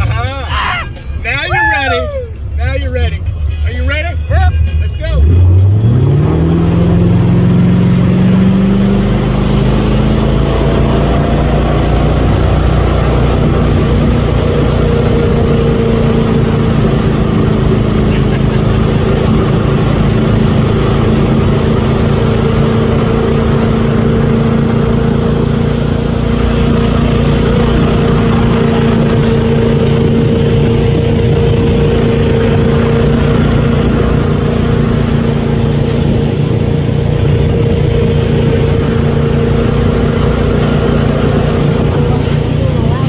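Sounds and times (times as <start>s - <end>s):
boat engine drone: 0.0s - 43.0s
boat wake hiss: 6.7s - 43.0s.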